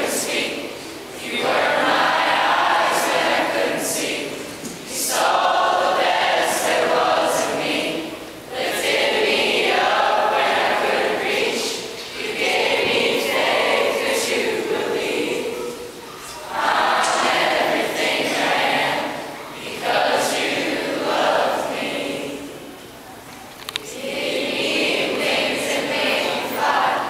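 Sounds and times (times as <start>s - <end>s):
choir singing: 0.0s - 22.9s, 23.9s - 27.0s.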